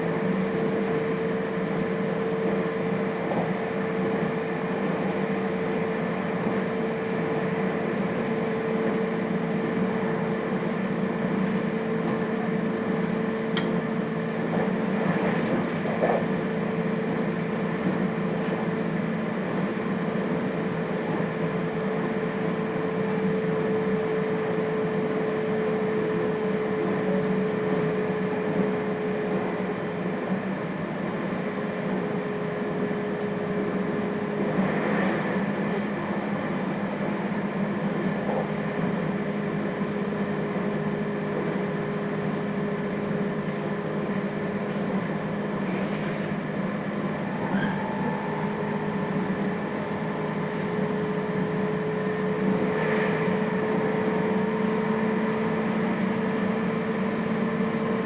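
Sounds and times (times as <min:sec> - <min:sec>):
train rolling noise: 0:00.0 - 0:58.0.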